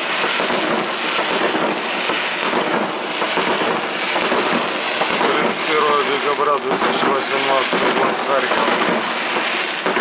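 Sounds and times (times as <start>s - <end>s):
firework bangs: 0.0s - 10.0s
fireworks crackling: 0.0s - 10.0s.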